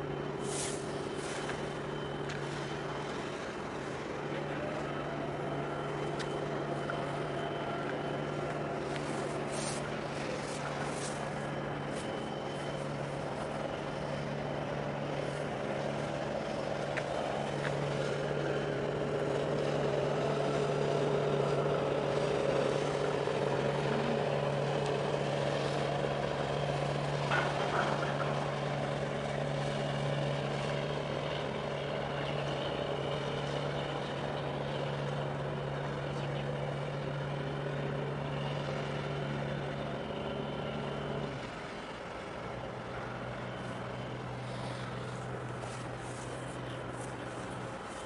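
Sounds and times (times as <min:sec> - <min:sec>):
heavy diesel engines humming: 0:00.0 - 0:48.0.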